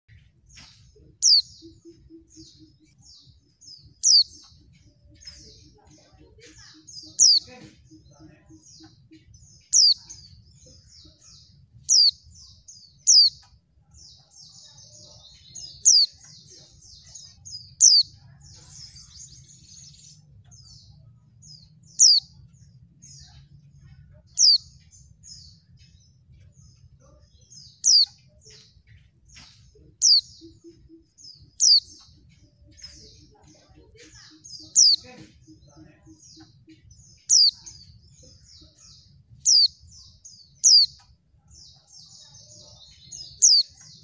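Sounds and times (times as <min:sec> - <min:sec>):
bird twittering: 0:00.1 - 0:14.0, 0:14.6 - 0:41.2, 0:42.4 - 0:44.0.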